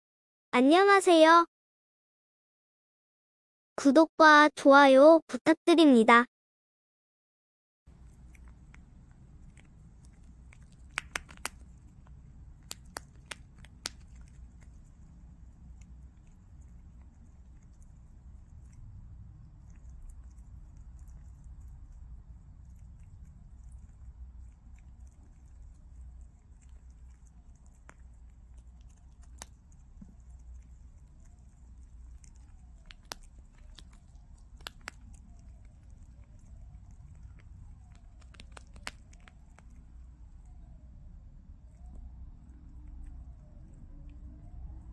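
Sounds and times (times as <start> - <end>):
prairie dog crunching biscuit: 7.9 - 40.8, 41.6 - 44.8
low steady hum: 7.9 - 44.9.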